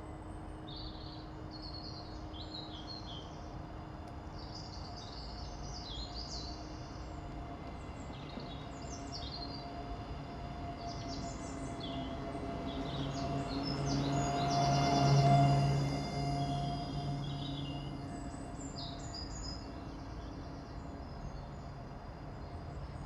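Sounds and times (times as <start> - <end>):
songbirds chirping: 0.4 - 23.0.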